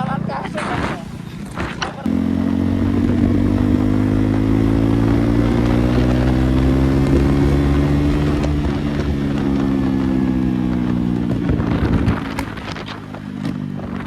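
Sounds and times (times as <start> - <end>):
motorcycle engine open-pipe note: 1.1 - 14.0.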